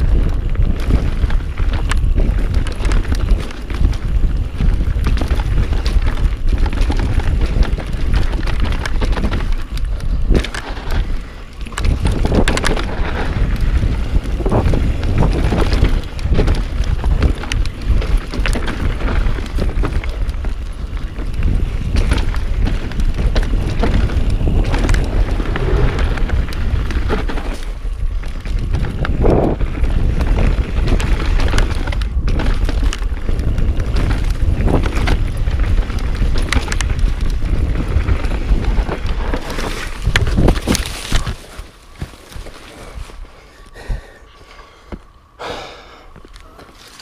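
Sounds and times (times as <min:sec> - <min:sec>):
bike rattling and knocking: 0:00.0 - 0:43.2
wind rushing over microphone: 0:00.0 - 0:44.3
bike tyres on dirt: 0:00.0 - 0:47.0.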